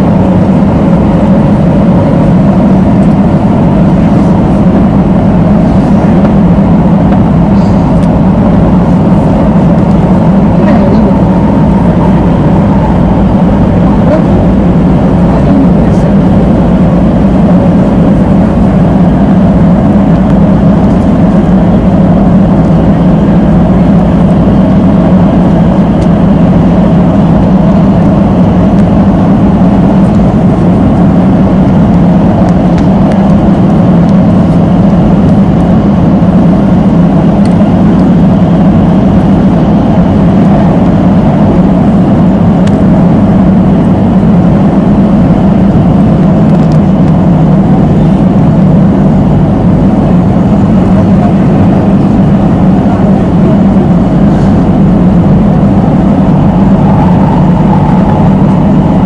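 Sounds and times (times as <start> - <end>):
train motor hum: 0.0 - 59.0
train wheels rumbling on rail: 0.0 - 59.0.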